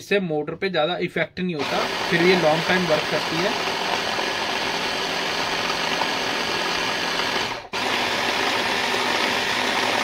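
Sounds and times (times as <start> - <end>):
hand blender chopping vegetables: 1.6 - 10.0.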